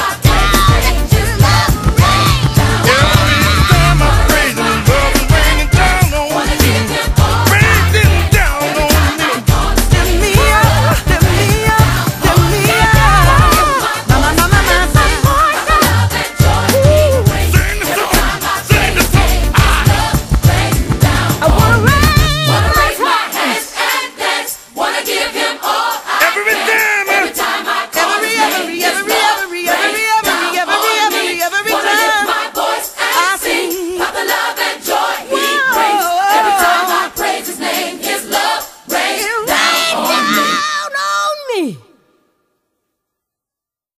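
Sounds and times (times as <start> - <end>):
choir singing gospel song: 0.0 - 41.0.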